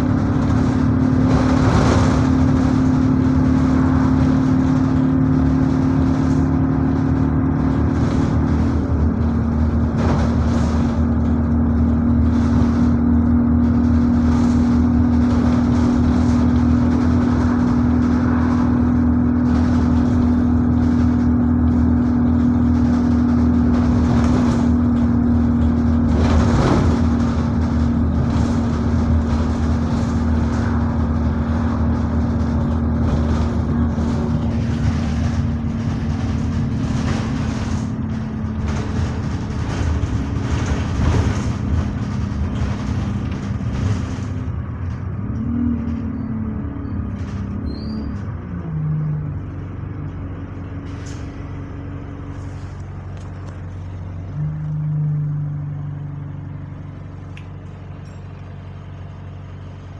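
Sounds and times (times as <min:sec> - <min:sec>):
bodywork rattles: 0:00.0 - 0:54.4
bus engine droning: 0:00.0 - 0:59.9.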